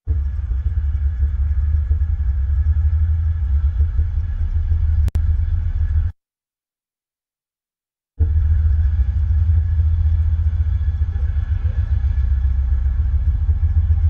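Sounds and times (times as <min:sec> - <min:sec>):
freight train rumbling: 0:00.0 - 0:06.1, 0:08.2 - 0:14.0.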